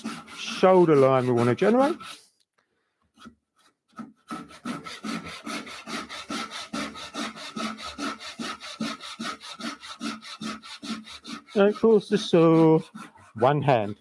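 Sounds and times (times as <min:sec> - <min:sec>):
saw cutting wood: 0:00.0 - 0:02.2, 0:03.2 - 0:14.0.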